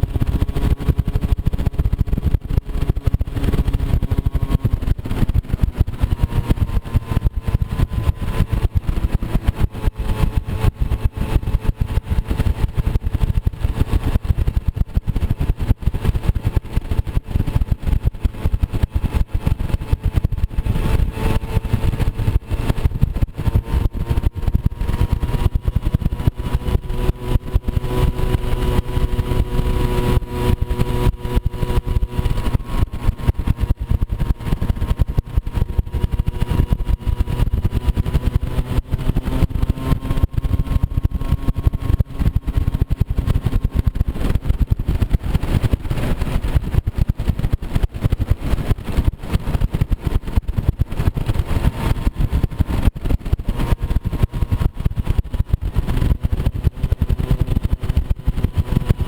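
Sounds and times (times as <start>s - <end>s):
moped engine running: 0.0s - 59.0s
rough low rumble: 0.0s - 59.0s.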